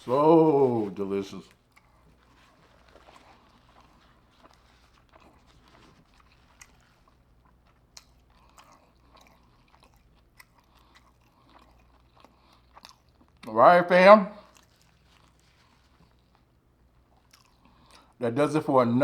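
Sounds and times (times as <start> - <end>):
chewing with mouth smacks: 0.0 - 13.6, 14.4 - 18.3.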